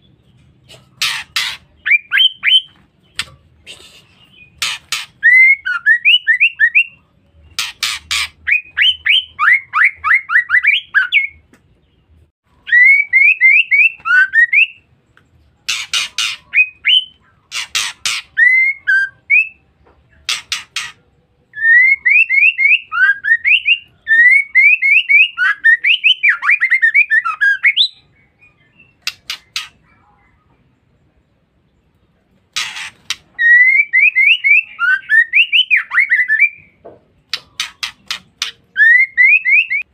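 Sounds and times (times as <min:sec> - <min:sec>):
harsh rasping bird calls: 0:00.0 - 0:12.0, 0:15.6 - 0:30.4, 0:32.4 - 0:39.9.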